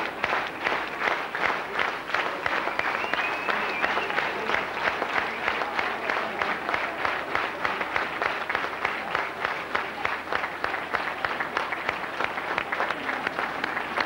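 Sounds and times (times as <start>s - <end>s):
crowd clapping in time: 0.0s - 14.0s
murmur of audience: 0.0s - 14.0s.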